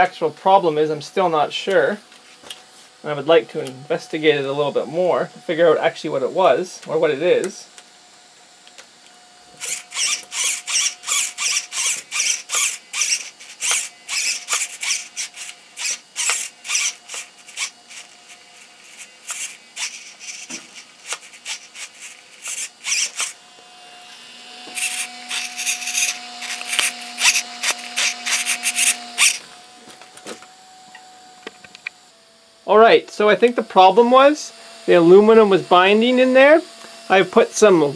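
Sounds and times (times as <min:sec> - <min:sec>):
servo whirring bursts: 0:02.9 - 0:37.9.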